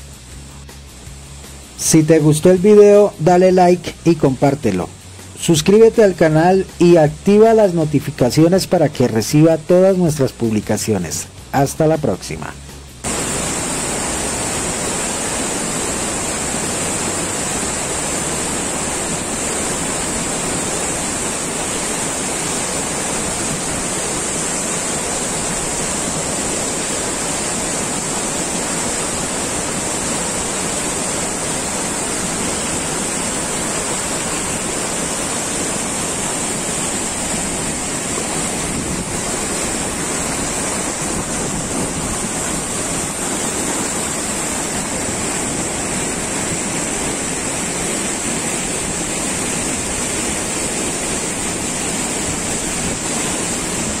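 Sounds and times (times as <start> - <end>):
high-pitched hiss: 0.0 - 54.0
water rushing: 0.0 - 54.0.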